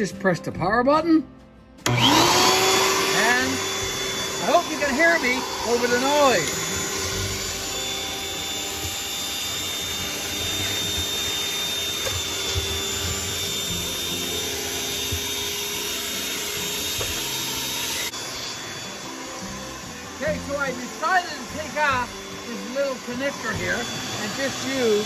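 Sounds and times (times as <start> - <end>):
nozzle sucking ashes: 1.8 - 25.0
vacuum cleaner whining: 1.8 - 25.0.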